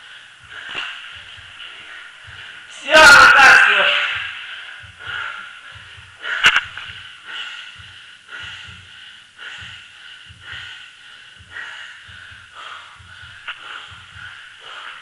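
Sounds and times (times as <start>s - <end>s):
soft paired thumps: 0.4s - 2.7s, 4.1s - 15.0s.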